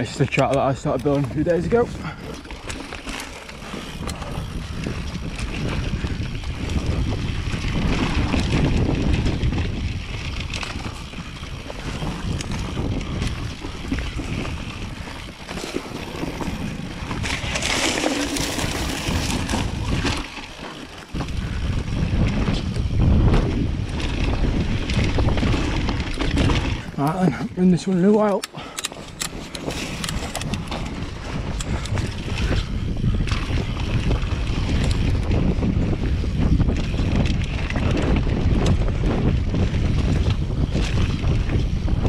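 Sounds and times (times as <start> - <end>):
bike knocks and rattles: 0.0 - 42.0
tyres rumbling on dirt: 0.0 - 42.0
wind buffeting microphone: 0.0 - 42.0.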